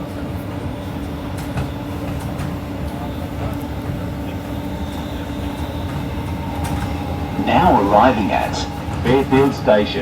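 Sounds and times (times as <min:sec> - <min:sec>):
train carriage rumble and hum: 0:00.0 - 0:10.0.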